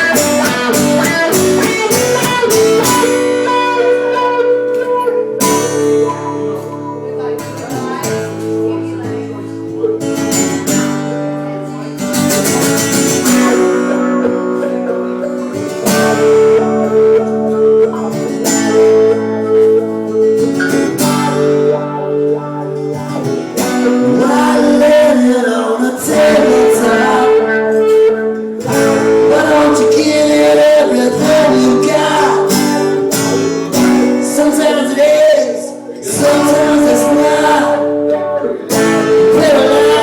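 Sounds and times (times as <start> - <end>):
live band playing: 0.0 - 40.0
strummed acoustic guitar: 0.0 - 40.0.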